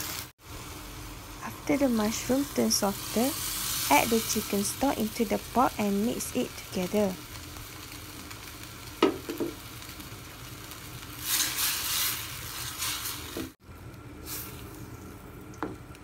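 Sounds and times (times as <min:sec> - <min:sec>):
food sizzling in saucepan: 0:00.0 - 0:13.6.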